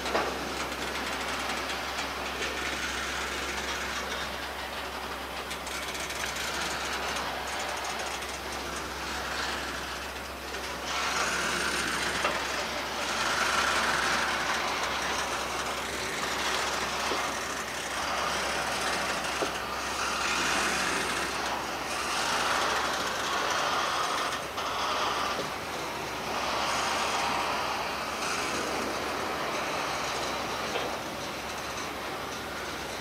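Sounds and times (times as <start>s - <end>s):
freight train wheels on rails: 0.0s - 33.0s.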